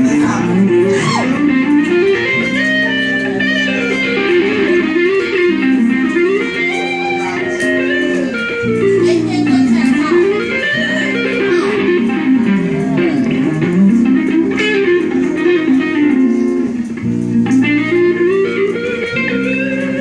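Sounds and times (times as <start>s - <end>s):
solo guitar playing: 0.0s - 20.0s.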